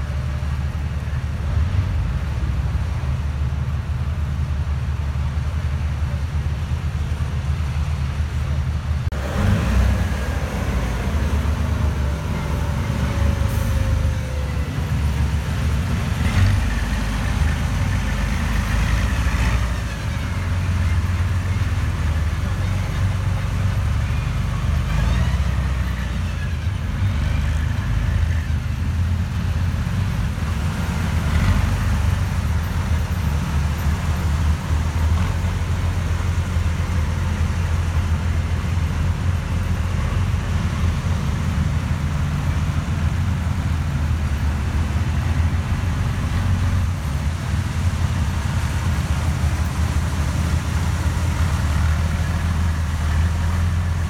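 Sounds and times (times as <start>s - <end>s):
heavy diesel engines rumbling: 0.0s - 54.0s.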